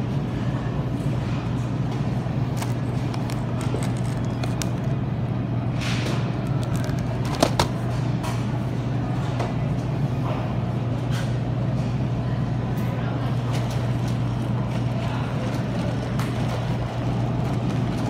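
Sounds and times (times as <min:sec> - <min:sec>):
low machinery hum: 0:00.0 - 0:18.0.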